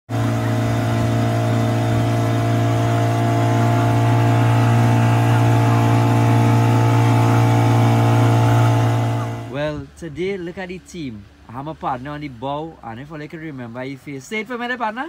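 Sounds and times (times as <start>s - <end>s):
outboard motor humming: 0.1s - 13.8s.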